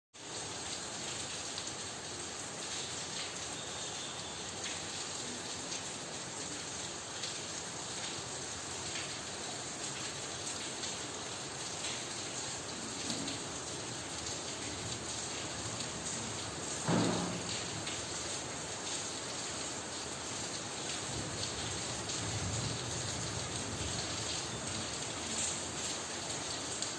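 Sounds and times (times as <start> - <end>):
steady rain falling: 0.2 - 26.9.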